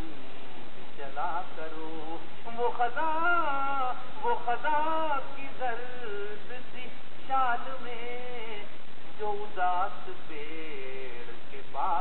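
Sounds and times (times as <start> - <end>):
man singing into a microphone: 1.0 - 12.0.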